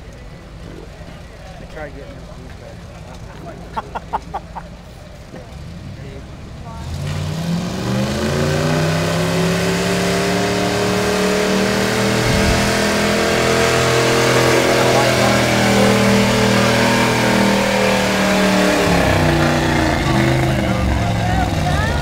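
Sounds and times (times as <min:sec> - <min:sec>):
truck engine revving under load: 0:03.1 - 0:22.0.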